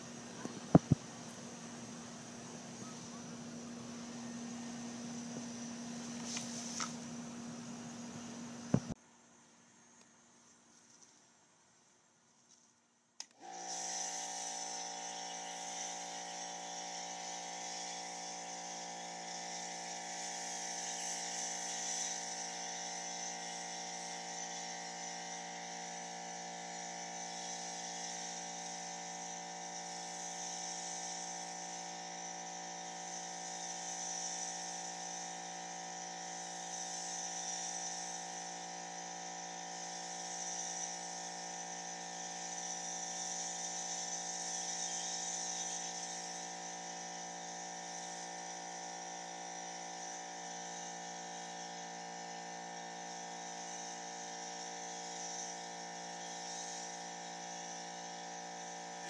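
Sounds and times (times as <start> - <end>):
foam spray hissing: 0.0 - 9.0, 13.4 - 59.0
pressure washer humming: 0.0 - 9.0, 13.2 - 59.0.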